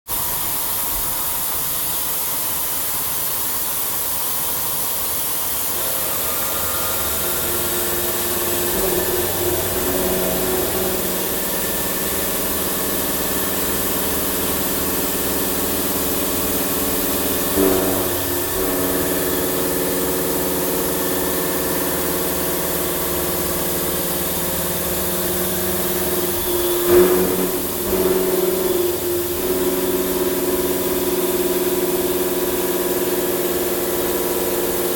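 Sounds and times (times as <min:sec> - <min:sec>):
milling machine cutting: 0:04.2 - 0:34.9
steady humming tones: 0:05.1 - 0:34.9.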